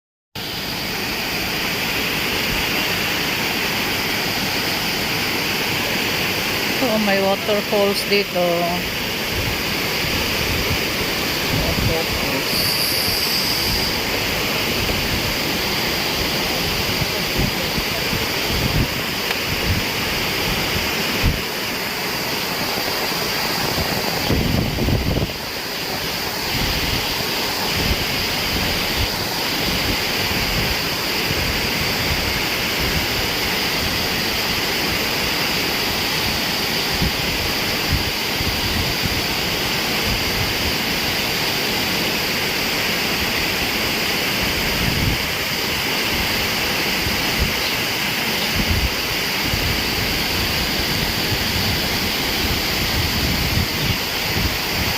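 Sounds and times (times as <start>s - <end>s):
small waterfall rushing: 0.4s - 54.9s.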